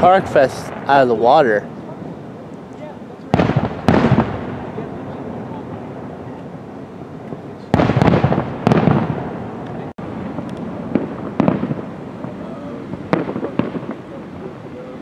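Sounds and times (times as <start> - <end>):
firework booms with echo: 0.0 - 2.2, 3.3 - 14.8
sharp firework reports: 0.0 - 15.0.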